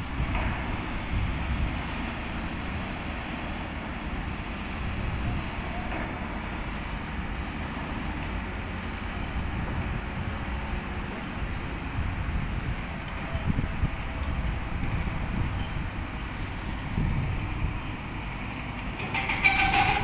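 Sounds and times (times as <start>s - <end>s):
diesel engine low rumble: 0.0s - 20.0s.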